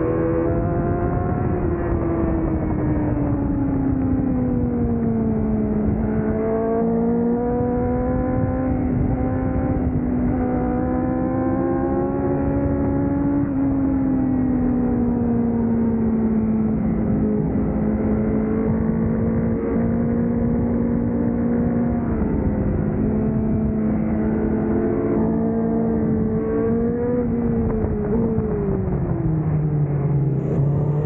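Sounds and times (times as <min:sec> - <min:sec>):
motorcycle engine running hard: 0:00.0 - 0:31.0
wind rush on microphone: 0:00.0 - 0:31.0.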